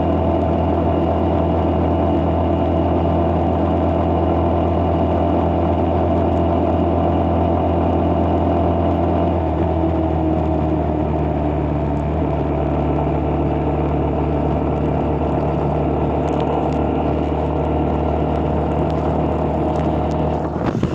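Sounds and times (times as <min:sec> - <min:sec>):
road noise: 0:00.0 - 0:20.9
vehicle engine running steadily: 0:00.0 - 0:20.9.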